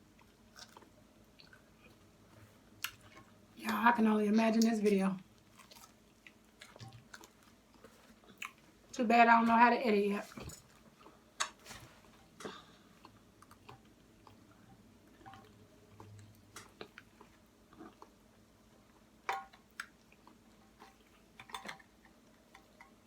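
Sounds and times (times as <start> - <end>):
person chewing food: 0.0 - 3.4, 5.3 - 8.8, 10.6 - 23.0.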